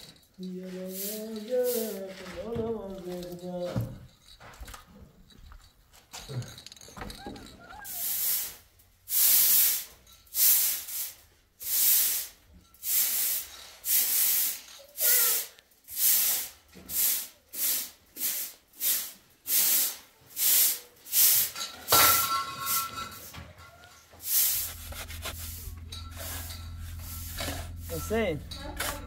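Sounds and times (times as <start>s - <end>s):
broom sweeping cement floor: 0.5s - 3.2s, 7.9s - 29.0s.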